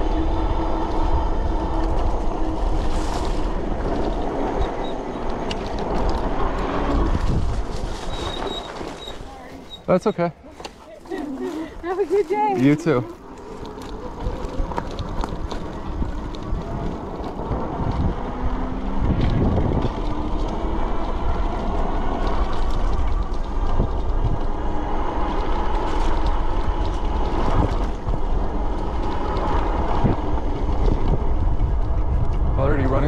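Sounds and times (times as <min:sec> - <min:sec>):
wind buffeting microphone: 0:00.0 - 0:10.2, 0:10.9 - 0:33.0.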